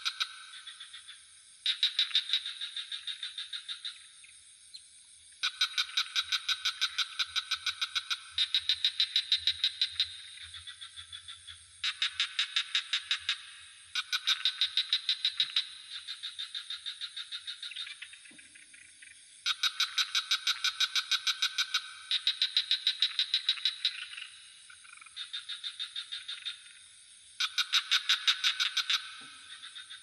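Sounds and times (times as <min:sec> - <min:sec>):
frogs trilling: 0:00.0 - 0:30.0.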